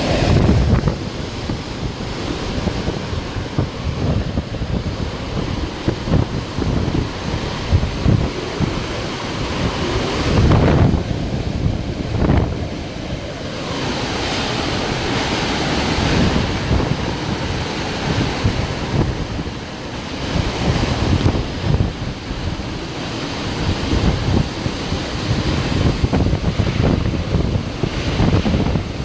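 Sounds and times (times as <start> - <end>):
storm wind rushing: 0.0 - 29.0
wind buffeting microphone: 0.0 - 29.0.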